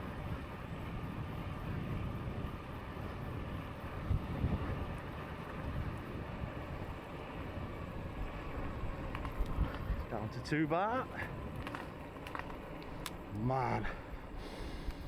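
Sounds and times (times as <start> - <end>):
e-bike low rumble: 0.0 - 15.0
wind buffeting microphone: 0.0 - 15.0.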